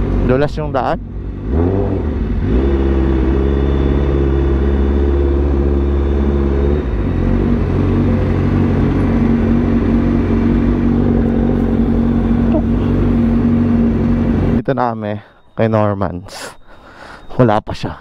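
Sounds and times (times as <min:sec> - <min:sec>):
motorcycle engine at low revs: 0:00.0 - 0:14.7.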